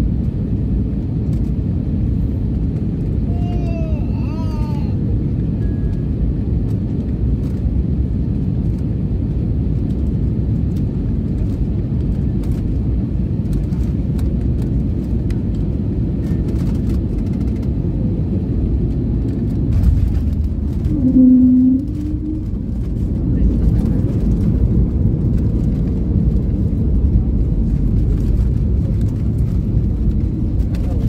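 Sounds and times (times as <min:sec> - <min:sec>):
airplane cabin rumble: 0:00.0 - 0:31.0.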